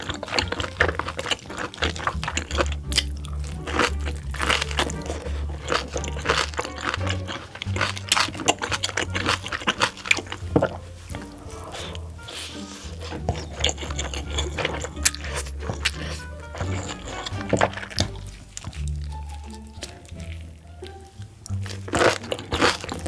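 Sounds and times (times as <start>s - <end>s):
background music with low notes: 0.0s - 23.0s
chewing and crunching food: 0.0s - 23.0s
sharp mouth sounds: 0.0s - 23.0s.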